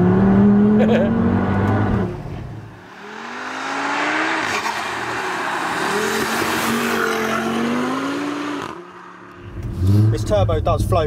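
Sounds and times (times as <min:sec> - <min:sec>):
car accelerating past: 0:00.0 - 0:10.3.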